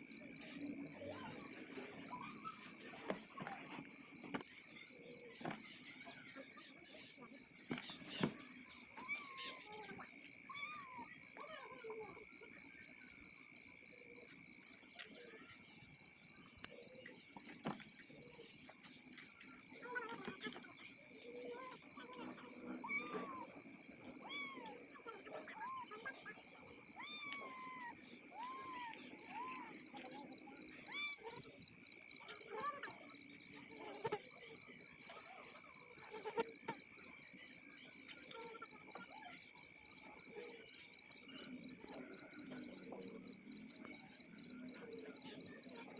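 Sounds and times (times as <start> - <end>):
bird chirps: 0.0 - 38.4
insects trilling: 0.0 - 45.9.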